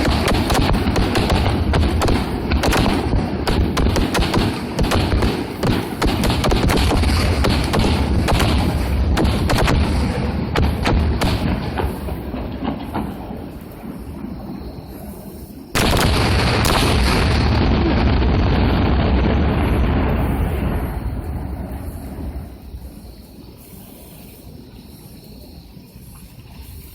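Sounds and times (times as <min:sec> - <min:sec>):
booming rumble: 0:00.0 - 0:15.0, 0:15.8 - 0:23.2
fireworks bangs and crackles: 0:00.0 - 0:23.2.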